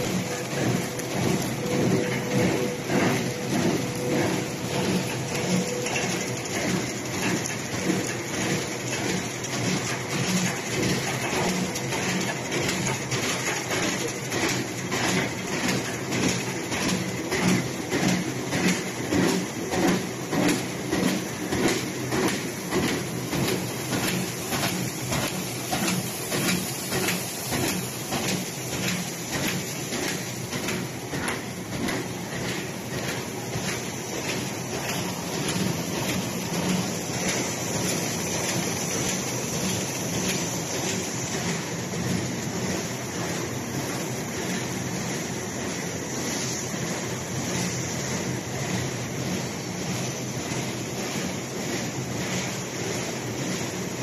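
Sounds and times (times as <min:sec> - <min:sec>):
machine clattering and whirring: 0:00.0 - 0:54.0.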